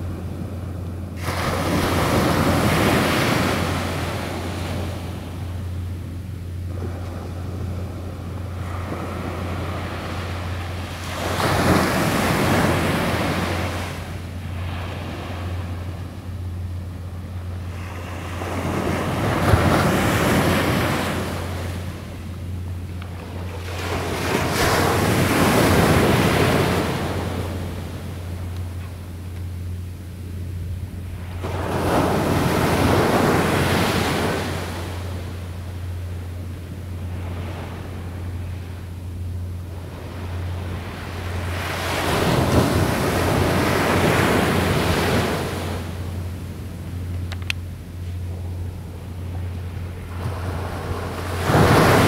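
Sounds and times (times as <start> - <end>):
waves breaking on beach: 0.0 - 28.5, 30.9 - 47.1, 48.0 - 52.0
low surf rumble: 0.0 - 52.0.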